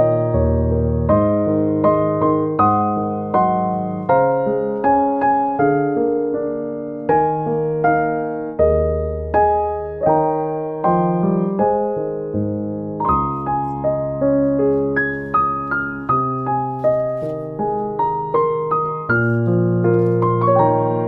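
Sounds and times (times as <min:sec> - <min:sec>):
slow piano piece: 0:00.0 - 0:21.0.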